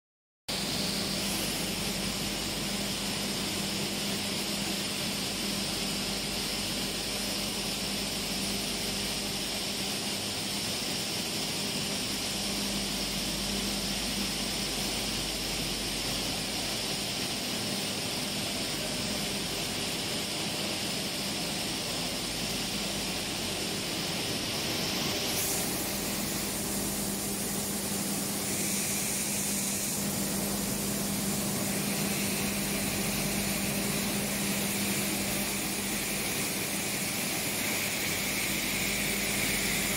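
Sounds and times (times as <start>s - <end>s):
milling machinery hum and whir: 0.5s - 39.9s
high hiss: 0.6s - 39.9s.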